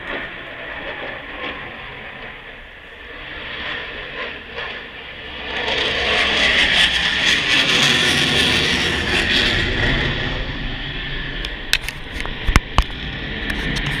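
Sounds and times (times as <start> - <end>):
aircraft engine noise: 0.0 - 14.0.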